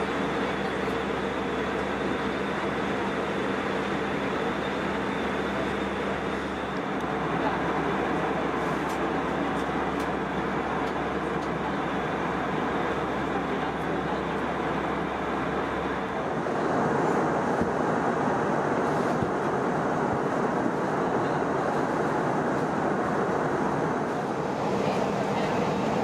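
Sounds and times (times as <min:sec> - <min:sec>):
airliner cabin noise: 0:00.0 - 0:26.0.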